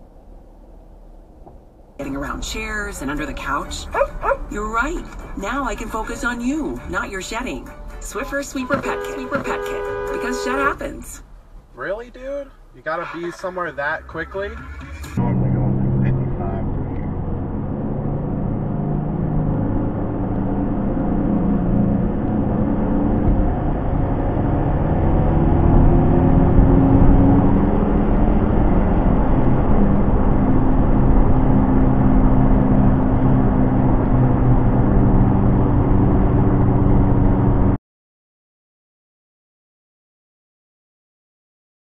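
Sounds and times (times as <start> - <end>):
car engine and tyre noise: 0.0 - 37.8.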